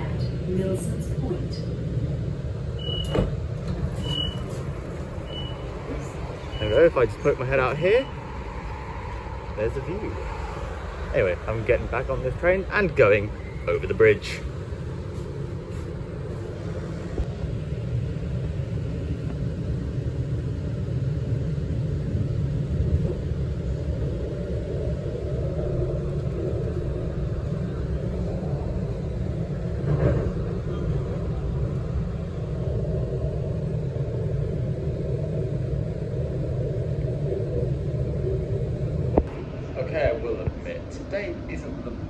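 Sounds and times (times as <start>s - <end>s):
train interior rumble: 0.0s - 42.0s.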